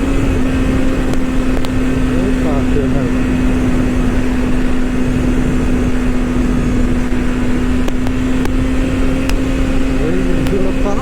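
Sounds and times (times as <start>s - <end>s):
motorcycle engine cruising: 0.0s - 11.0s
wind rushing over microphone: 0.0s - 11.0s.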